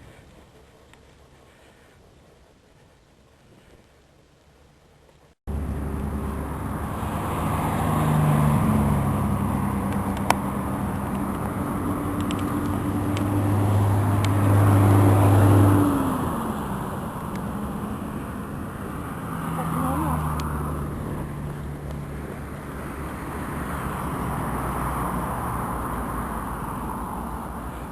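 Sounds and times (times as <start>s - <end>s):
tyre and road noise: 0.0s - 27.9s
vehicle engine hum: 0.0s - 27.9s.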